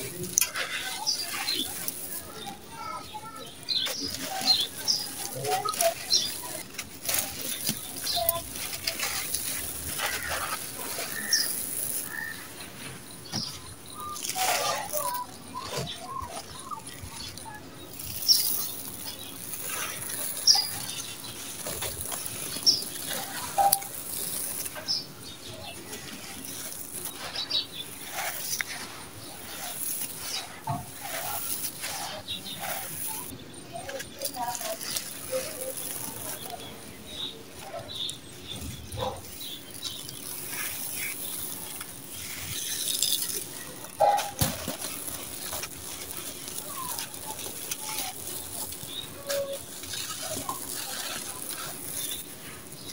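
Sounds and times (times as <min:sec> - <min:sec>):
gravel grinding and trickling: 0:00.0 - 0:52.9
hands crumbling gritty mix: 0:00.0 - 0:52.9.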